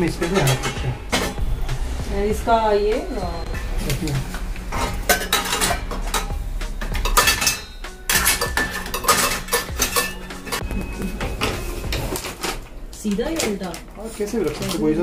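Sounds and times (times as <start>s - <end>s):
metal dishes clattering: 0.0s - 1.5s, 4.3s - 15.0s.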